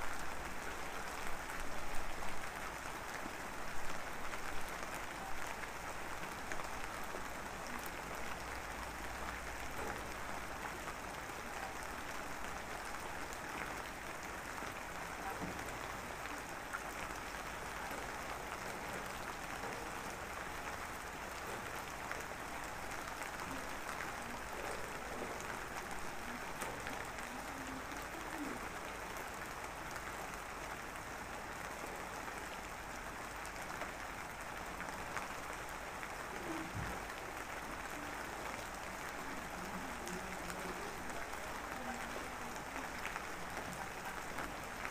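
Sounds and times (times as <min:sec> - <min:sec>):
rain-like hiss with crackle: 0:00.0 - 0:44.9.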